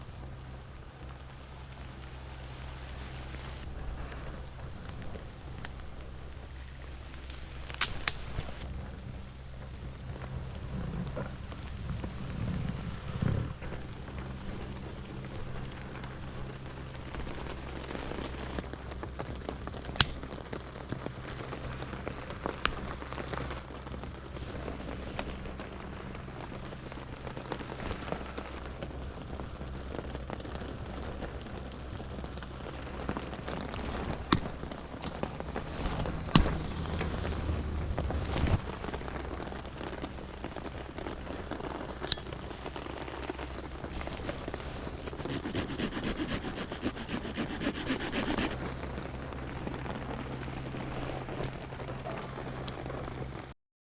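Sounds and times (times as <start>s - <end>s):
steady rain falling: 0.0s - 53.6s.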